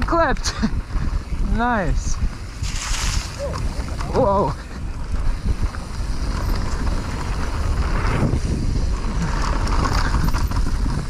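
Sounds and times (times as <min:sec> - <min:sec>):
bike rolling rumble: 0:00.0 - 0:11.0
wind rushing over microphone: 0:00.0 - 0:11.0.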